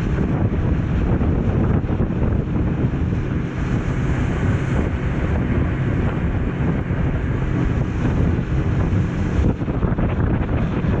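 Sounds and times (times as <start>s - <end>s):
boat motor: 0.0s - 11.0s
water rushing against hull: 0.0s - 11.0s
wind buffeting microphone: 0.0s - 11.0s.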